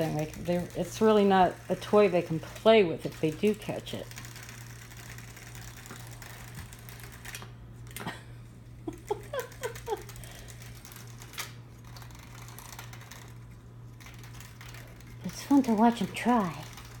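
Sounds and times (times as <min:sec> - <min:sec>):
toy motor humming: 0:00.0 - 0:07.5, 0:08.8 - 0:17.0.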